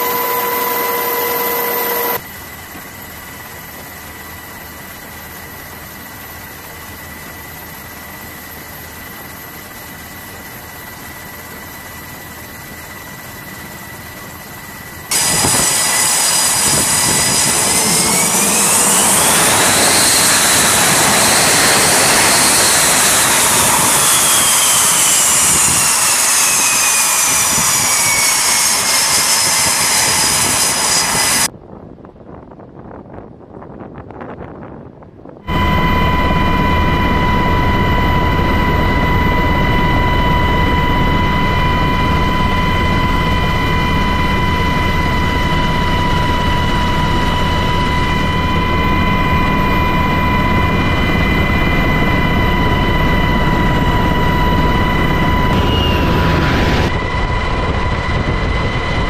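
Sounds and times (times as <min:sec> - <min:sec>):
helicopter cabin noise: 0:00.0 - 0:31.5, 0:35.5 - 0:59.0
jet engines at full power: 0:00.0 - 0:59.0.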